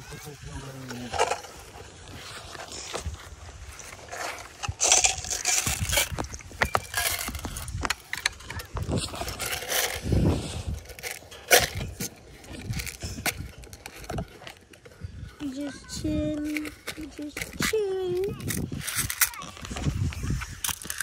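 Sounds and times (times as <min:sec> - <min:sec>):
close scraping and rustling: 0:00.0 - 0:21.0.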